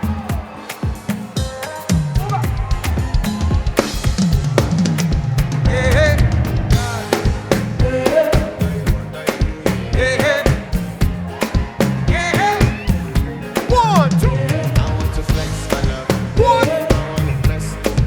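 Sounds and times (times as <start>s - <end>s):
drum kit groove: 0.0s - 18.0s
live band music: 0.0s - 18.0s
bass line: 2.0s - 18.0s
pitch-bending melody: 3.3s - 18.0s.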